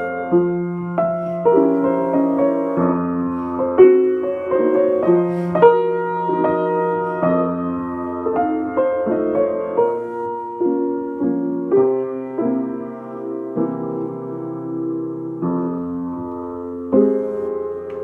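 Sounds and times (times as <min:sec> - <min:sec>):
upright piano chords and melody: 0:00.0 - 0:18.0.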